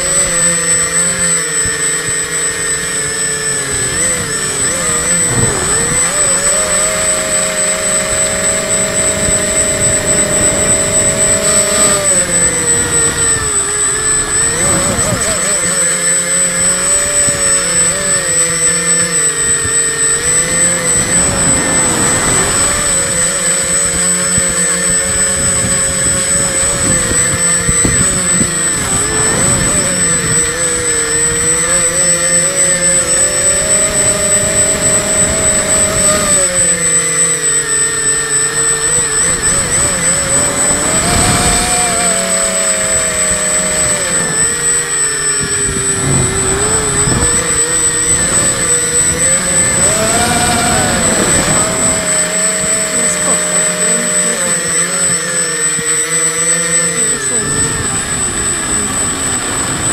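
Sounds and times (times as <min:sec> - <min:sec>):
drone motors whining: 0:00.0 - 0:59.9
wind buffeting microphone: 0:00.0 - 0:59.9.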